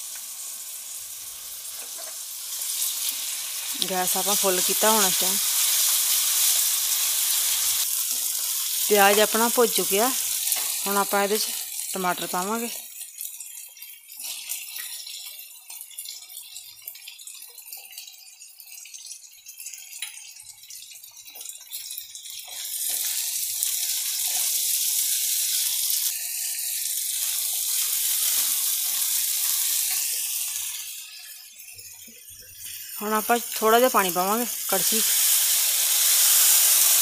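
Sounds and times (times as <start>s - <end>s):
vegetables sizzling in hot oil: 0.0s - 37.0s.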